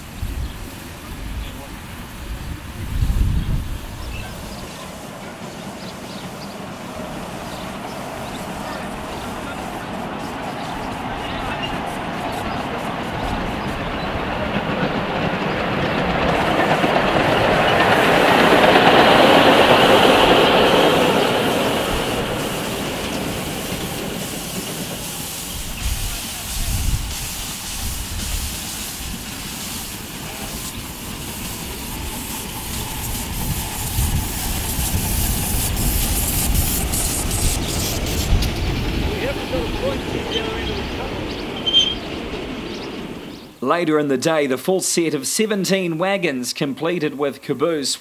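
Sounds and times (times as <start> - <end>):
steam hissing: 0.0 - 43.6
wheels clicking on track: 0.0 - 43.6
low rumble of train: 0.0 - 43.7.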